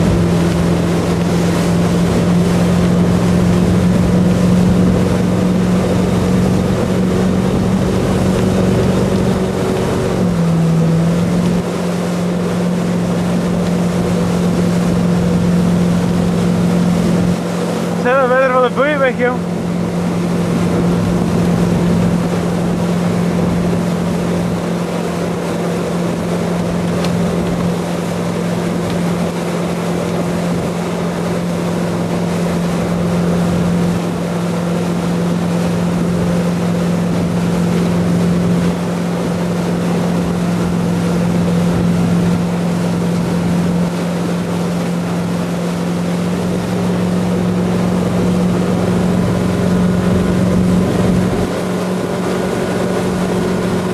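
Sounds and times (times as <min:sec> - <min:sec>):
boat engine running: 0:00.0 - 0:53.9
water churning wake: 0:00.0 - 0:53.9
wind: 0:00.0 - 0:53.9.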